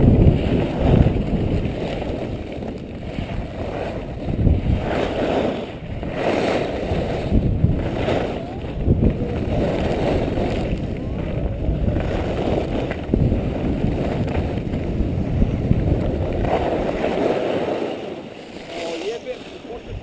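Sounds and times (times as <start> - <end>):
skis scraping on snow: 0.0 - 20.0
wind buffeting microphone: 0.0 - 20.0.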